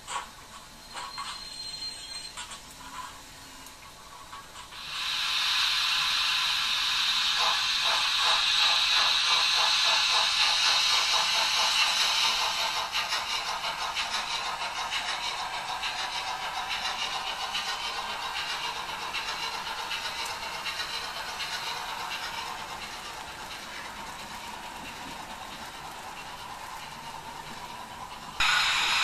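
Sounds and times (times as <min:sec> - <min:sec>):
model train clattering on track: 0:00.0 - 0:29.0.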